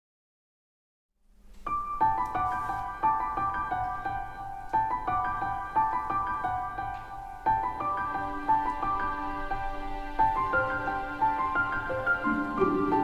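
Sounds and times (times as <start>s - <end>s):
gentle piano music: 1.4s - 13.0s.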